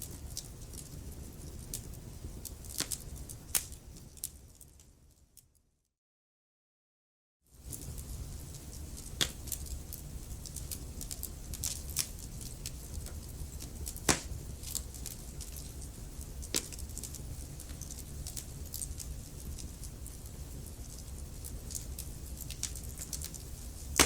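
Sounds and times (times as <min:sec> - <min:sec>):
low rumble of flames: 0:00.0 - 0:05.5, 0:07.5 - 0:24.0
wood fire crackling: 0:00.0 - 0:05.5, 0:07.5 - 0:24.0.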